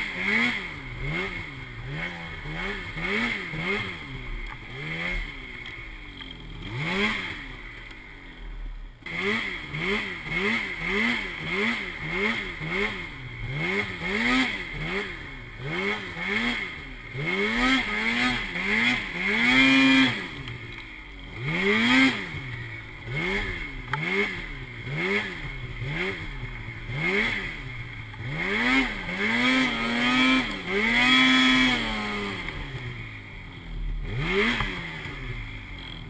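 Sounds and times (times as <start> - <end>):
snowmobile engine revving: 0.0 - 36.0.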